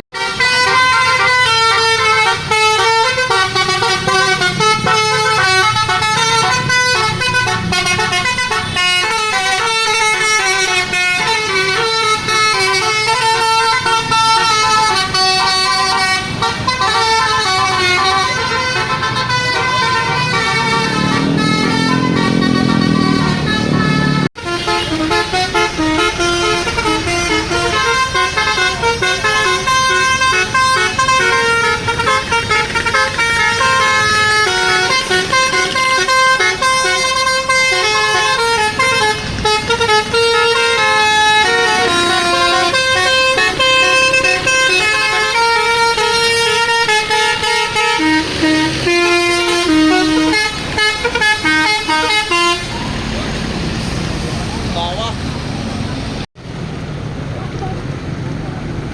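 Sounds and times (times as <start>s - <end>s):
melodic bus air horns: 0.1s - 55.0s.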